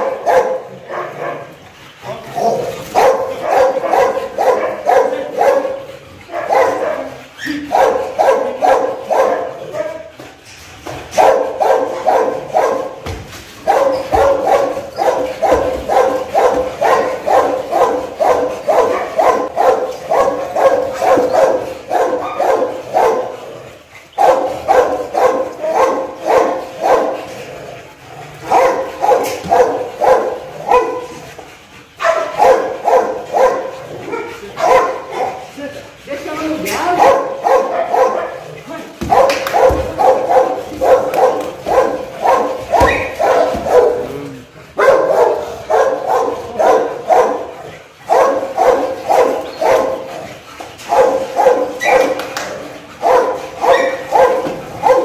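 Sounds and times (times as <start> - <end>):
puppy barking: 0.0 - 1.6, 2.4 - 10.2, 11.2 - 23.6, 24.2 - 27.3, 28.4 - 31.3, 32.0 - 35.5, 36.6 - 50.2, 50.8 - 52.4, 53.0 - 55.0.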